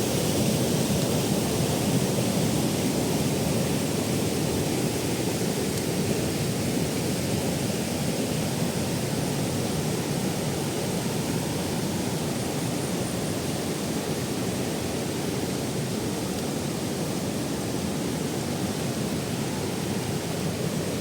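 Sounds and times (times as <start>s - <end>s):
waterfall rushing over rock: 0.0s - 21.0s.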